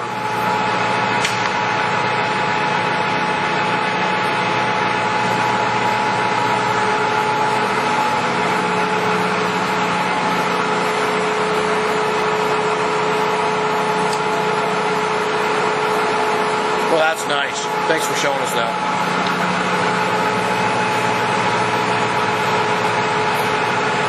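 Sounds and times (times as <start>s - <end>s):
lathe machine whirring and whining: 0.0s - 24.0s.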